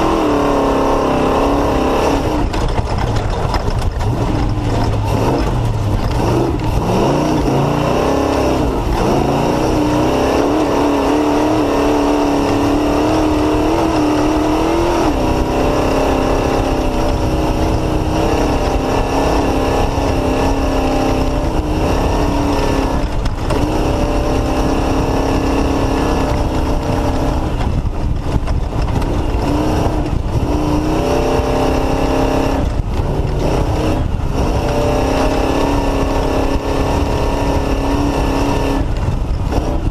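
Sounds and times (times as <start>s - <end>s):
race engine revving: 0.0s - 39.9s.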